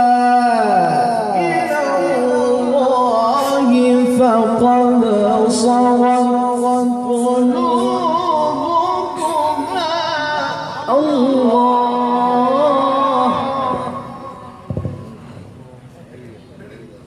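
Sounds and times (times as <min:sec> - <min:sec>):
man reciting melodically: 0:00.0 - 0:14.7.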